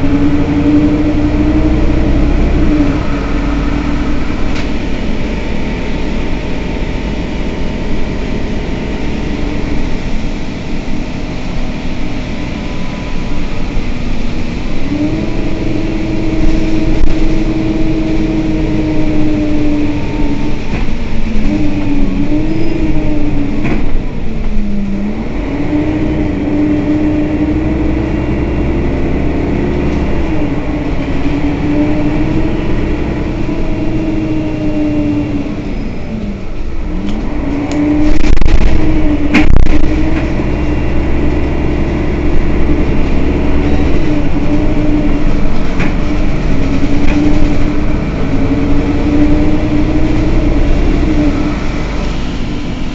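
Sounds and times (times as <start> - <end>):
bus engine idling: 0.0 - 52.9
wavering whine: 0.0 - 52.9.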